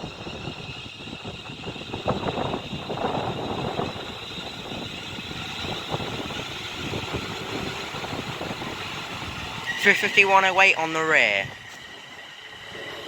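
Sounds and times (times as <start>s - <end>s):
train rumble: 0.0s - 13.0s
wheels clacking on track: 0.0s - 13.0s.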